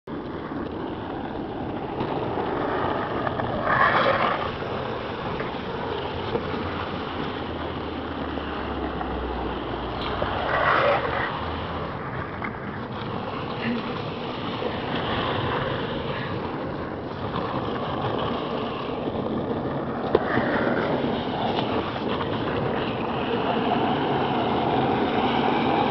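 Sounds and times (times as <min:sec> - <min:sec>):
longboard wheels rolling on asphalt: 0:00.0 - 0:25.9
wind noise on microphone: 0:00.0 - 0:25.9.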